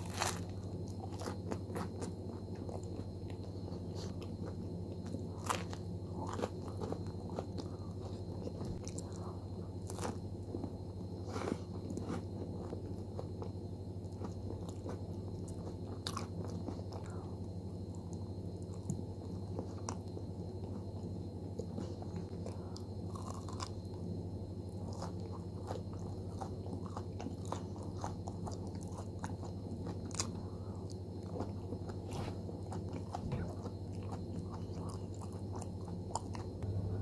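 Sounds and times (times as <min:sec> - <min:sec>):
crunching pastry snack: 0:00.0 - 0:36.8
steady low hum: 0:00.0 - 0:37.0.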